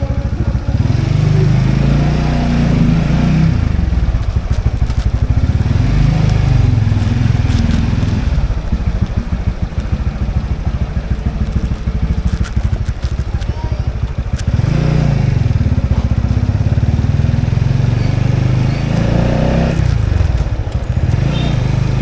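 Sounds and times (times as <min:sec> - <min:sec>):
motorbike engine running: 0:00.0 - 0:22.0.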